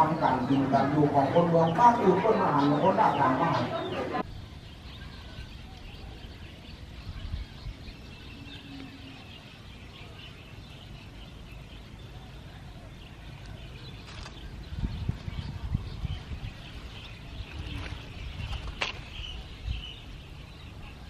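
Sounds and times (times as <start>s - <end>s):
faint bird chirps: 1.7s - 21.0s.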